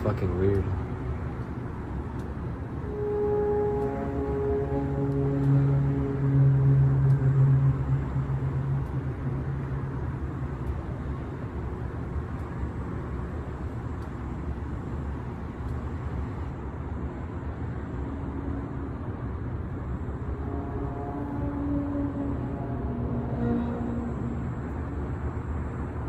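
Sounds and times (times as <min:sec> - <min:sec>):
rumbling drone: 0:00.3 - 0:15.5, 0:16.2 - 0:26.0
held pitched hum tones: 0:02.5 - 0:13.7, 0:16.2 - 0:26.0.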